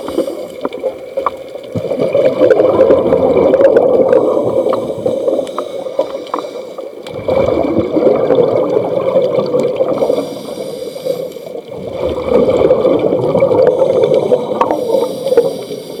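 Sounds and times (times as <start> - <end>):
water gurgling and bubbling: 0.0 - 16.0.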